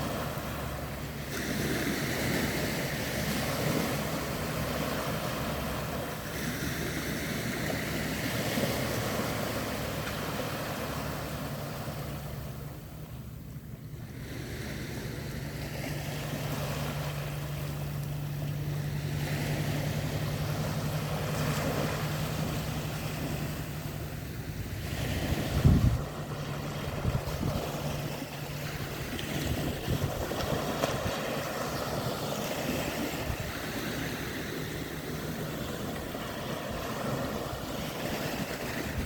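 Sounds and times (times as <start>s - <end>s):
sea waves washing: 0.0s - 39.0s
steady low hum: 3.9s - 39.0s.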